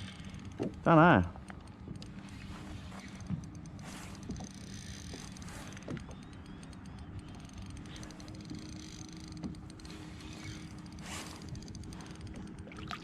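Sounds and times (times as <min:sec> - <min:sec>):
fishing reel ticking: 0:00.0 - 0:00.6, 0:01.5 - 0:13.0
wind and water rumble: 0:00.0 - 0:13.0.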